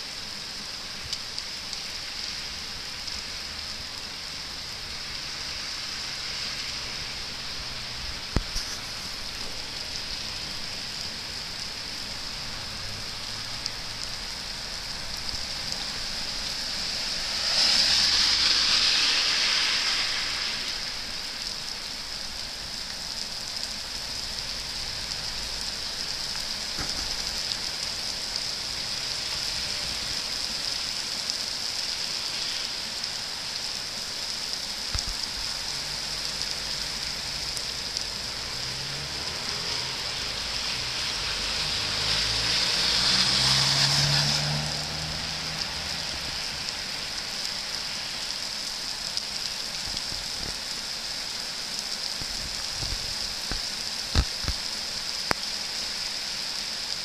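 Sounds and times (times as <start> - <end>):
heavy rain on street: 0.0 - 57.0
rush of rain: 0.0 - 57.0.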